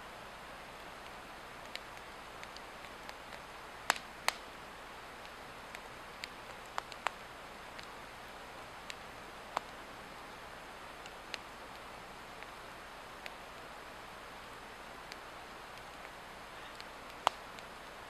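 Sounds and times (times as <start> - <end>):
steady hiss: 0.0 - 18.0
burning log crackling: 0.1 - 18.0.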